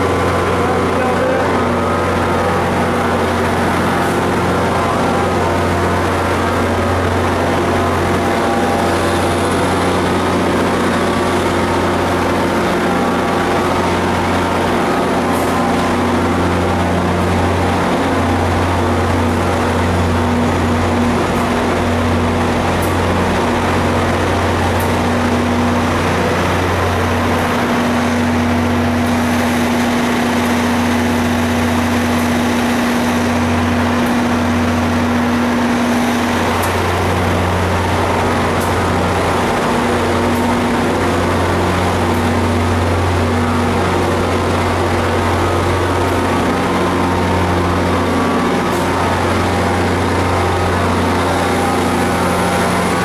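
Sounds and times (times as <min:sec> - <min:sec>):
locomotive engine drone: 0:00.0 - 0:53.0.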